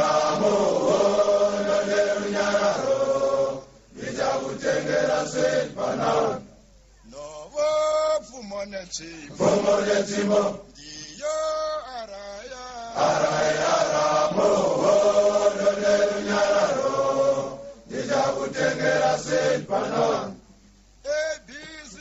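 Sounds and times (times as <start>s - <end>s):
men chanting a song: 0.0s - 6.4s, 9.1s - 20.4s.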